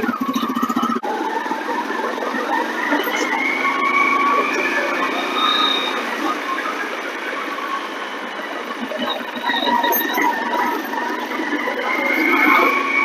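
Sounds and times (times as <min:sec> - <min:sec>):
road traffic din: 0:00.0 - 0:13.0.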